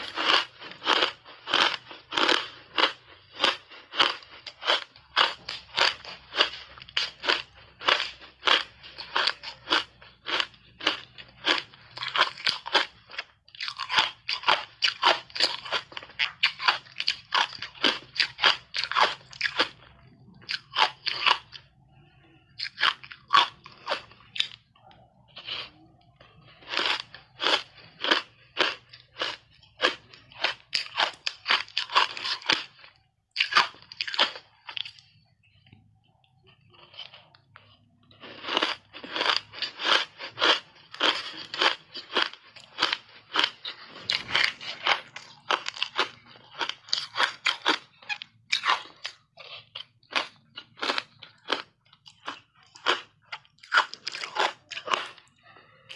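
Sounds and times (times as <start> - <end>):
ice being chewed crunching: 0.0 - 35.6, 36.2 - 55.9.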